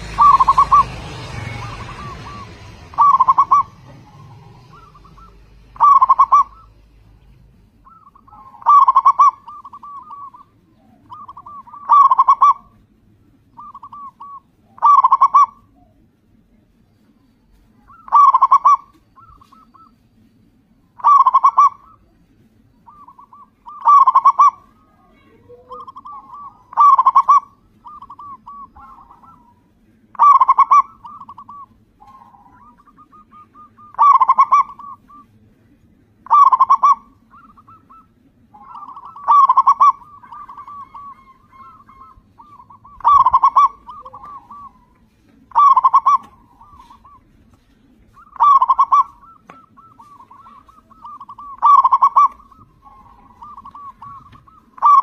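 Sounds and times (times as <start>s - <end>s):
dove cooing: 0.0s - 20.3s, 20.9s - 55.0s.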